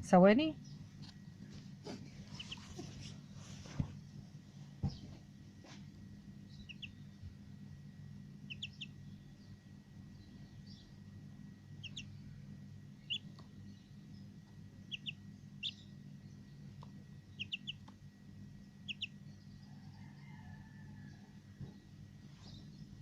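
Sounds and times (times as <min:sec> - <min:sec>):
steady low hum: 0:00.0 - 0:23.0
small birds chirping: 0:00.3 - 0:03.6, 0:04.8 - 0:05.2, 0:06.4 - 0:23.0.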